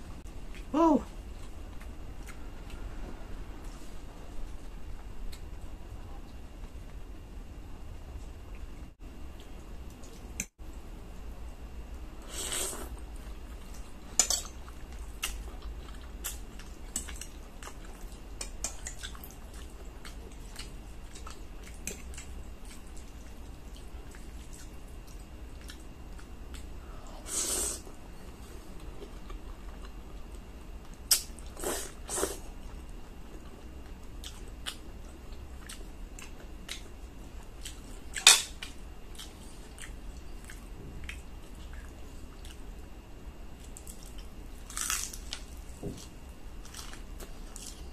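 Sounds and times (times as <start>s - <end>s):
soft chewing: 0.2s - 7.1s, 12.5s - 47.9s.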